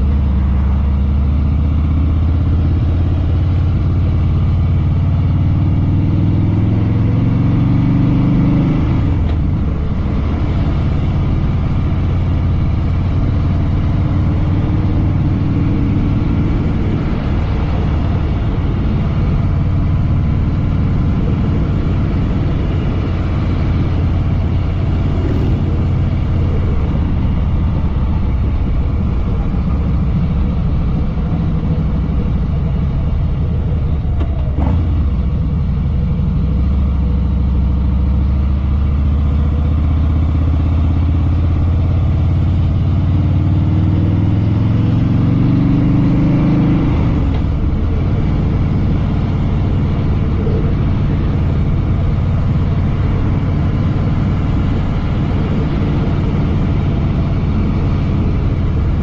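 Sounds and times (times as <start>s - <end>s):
motorcycle engine rumbling: 0.0s - 59.0s.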